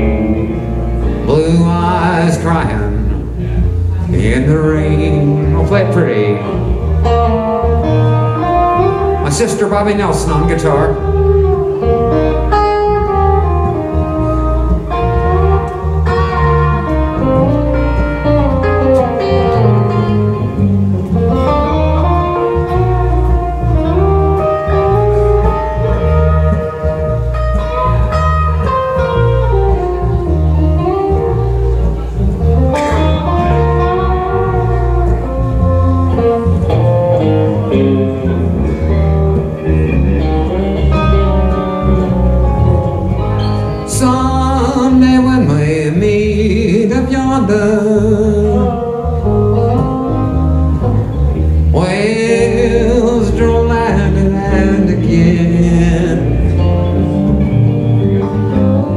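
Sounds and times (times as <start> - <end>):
bass line: 0.0 - 58.9
plucked guitar melody: 0.0 - 58.9.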